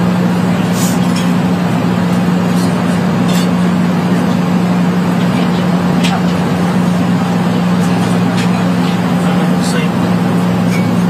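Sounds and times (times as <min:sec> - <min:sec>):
airplane cabin engine rush: 0:00.0 - 0:11.0
constant low hum: 0:00.0 - 0:11.0.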